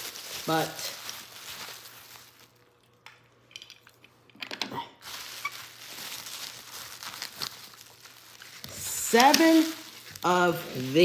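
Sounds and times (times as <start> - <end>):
packaging crinkling: 0.0 - 3.0, 5.0 - 11.0.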